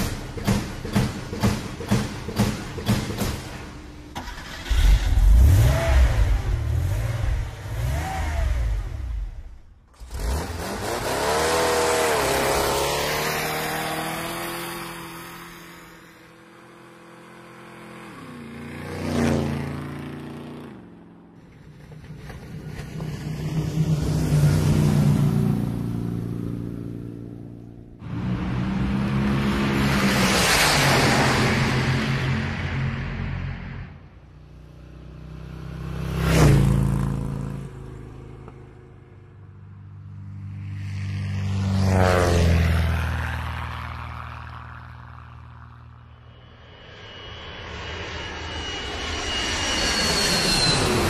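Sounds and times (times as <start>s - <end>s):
vehicles driving past: 0.0s - 49.1s.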